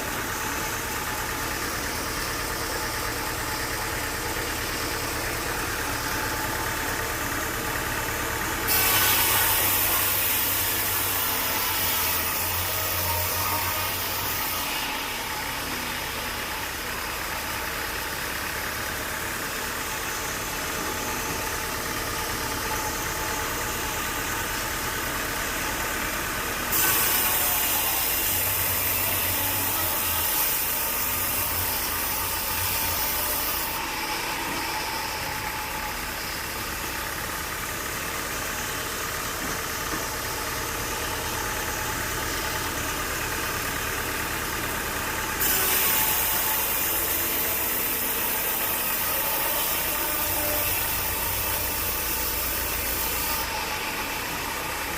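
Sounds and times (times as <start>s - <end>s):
saw cutting through log: 0.0s - 39.0s, 39.6s - 54.9s
sawmill engine running: 0.0s - 54.9s.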